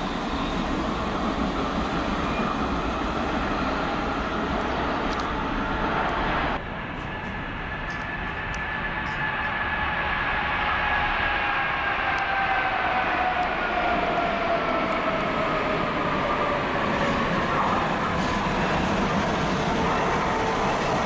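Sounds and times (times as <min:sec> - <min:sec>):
train rail rumble: 0:00.0 - 0:21.0.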